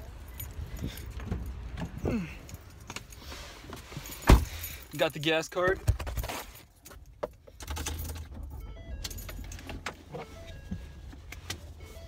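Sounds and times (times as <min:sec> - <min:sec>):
car keys jangling: 0:00.0 - 0:10.7.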